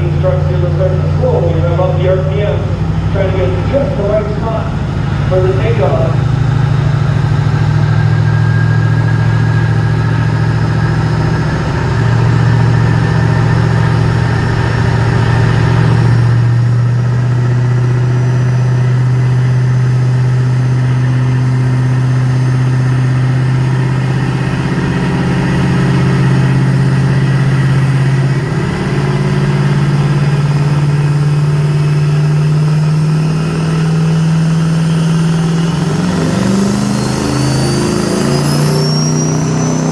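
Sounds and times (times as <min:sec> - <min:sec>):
truck engine at high revs: 0:00.0 - 0:39.9.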